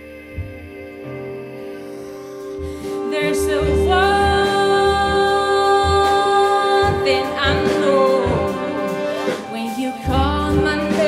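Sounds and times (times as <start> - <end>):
big band bass notes: 0.0 - 11.0.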